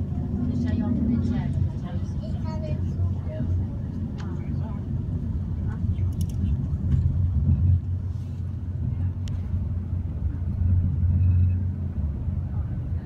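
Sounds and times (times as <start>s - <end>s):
train running low rumble: 0.0s - 13.0s.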